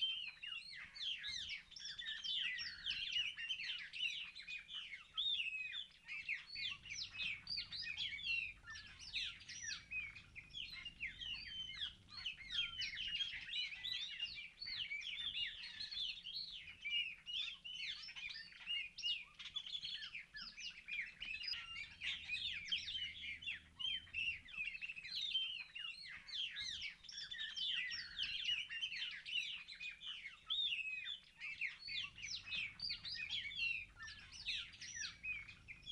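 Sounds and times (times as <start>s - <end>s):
small birds chirping chorus: 0.0s - 35.9s.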